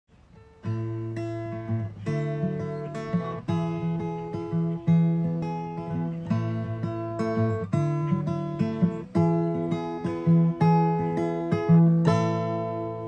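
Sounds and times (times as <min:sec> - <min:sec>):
acoustic guitar strumming chords: 0:00.2 - 0:13.0.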